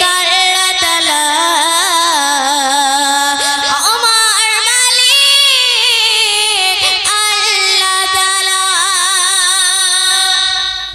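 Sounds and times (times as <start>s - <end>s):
high voice singing: 0.0s - 10.9s.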